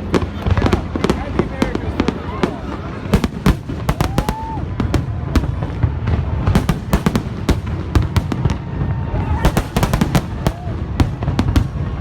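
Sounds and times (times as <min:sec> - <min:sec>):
fireworks bangs and pops: 0:00.0 - 0:12.0
low rumble of explosions: 0:00.0 - 0:12.0.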